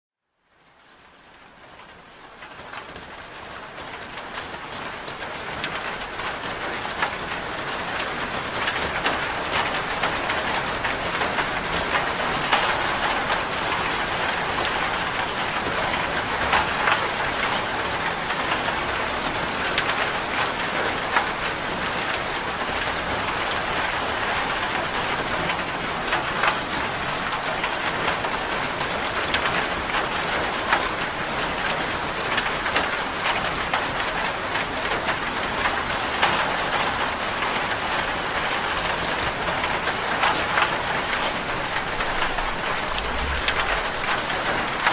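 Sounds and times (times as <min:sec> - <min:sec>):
steady rain falling: 0:00.2 - 0:44.9.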